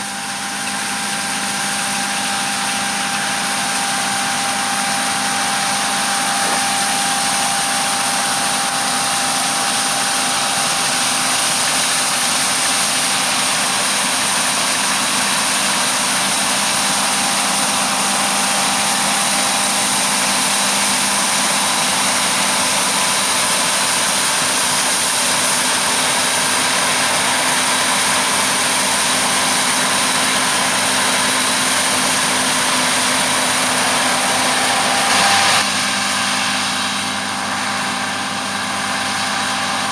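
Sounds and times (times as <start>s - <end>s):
farm machinery engine drone: 0.0s - 39.9s.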